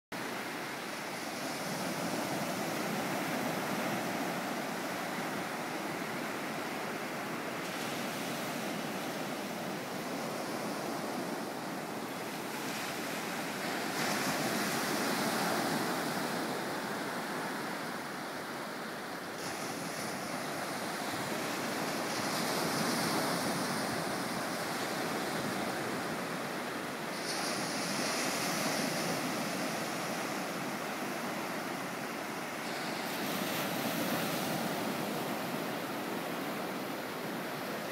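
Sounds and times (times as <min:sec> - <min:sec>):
waves washing up a sandy beach: 0:00.2 - 0:37.9.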